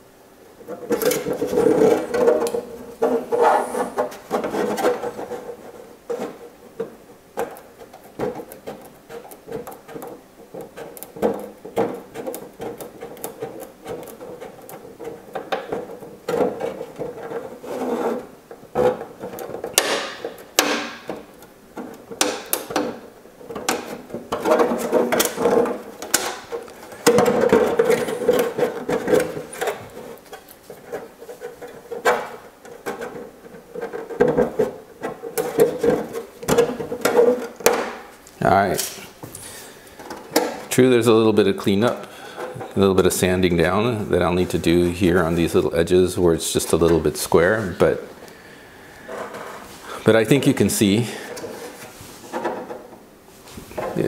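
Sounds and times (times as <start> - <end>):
thin plastic rubbing and scraping: 0.6 - 54.0.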